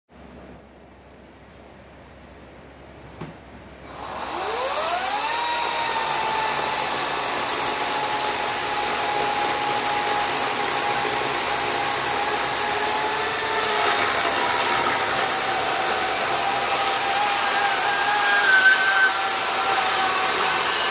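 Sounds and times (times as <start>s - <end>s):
chainsaw high-pitched whine: 3.9s - 20.9s.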